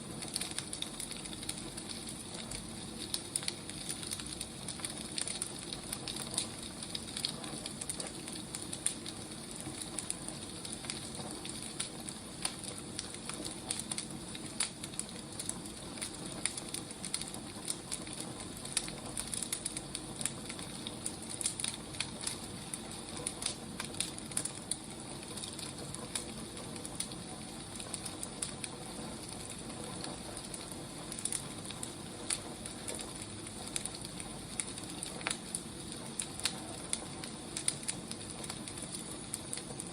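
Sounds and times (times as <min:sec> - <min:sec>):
firewood burning and crackling: 0:00.0 - 0:39.9.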